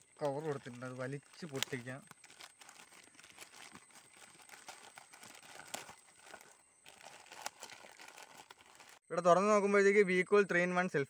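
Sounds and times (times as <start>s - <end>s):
plastic bag crinkling and rustling: 0.0s - 9.0s
plastic bag tearing: 0.0s - 9.0s.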